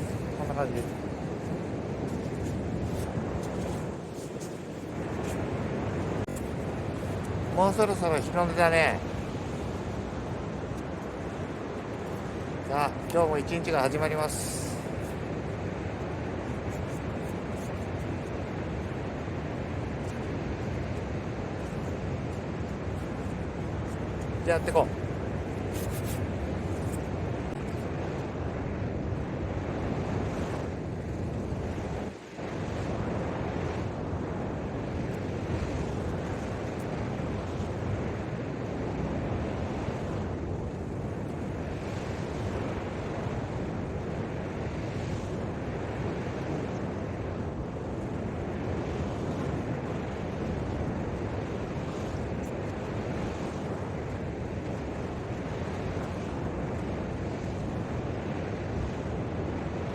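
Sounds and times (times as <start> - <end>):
surf washing on beach: 0.0 - 59.9
wind buffeting microphone: 0.0 - 59.9.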